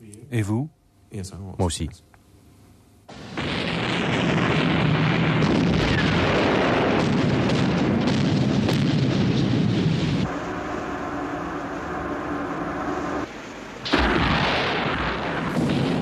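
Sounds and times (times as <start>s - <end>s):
explosion roar with crackle: 3.1s - 16.0s.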